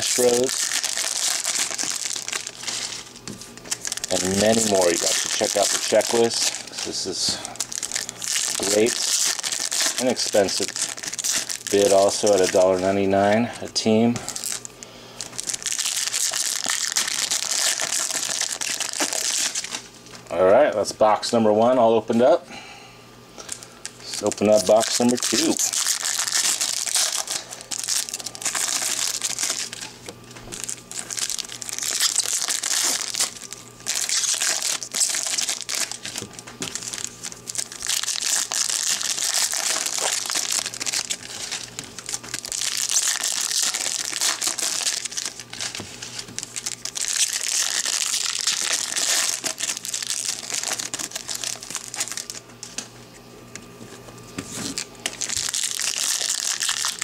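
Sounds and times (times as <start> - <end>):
foil wrappers crinkling: 0.0 - 20.2, 23.4 - 53.2, 53.8 - 57.0.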